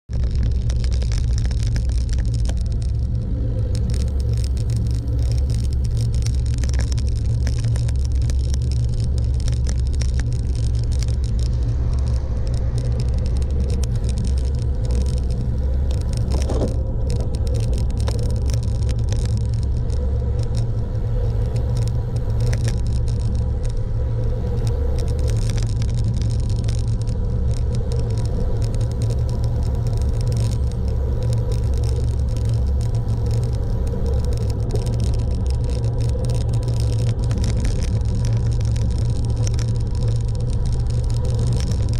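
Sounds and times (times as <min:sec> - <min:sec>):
road vehicle rumble: 0:00.0 - 0:41.9.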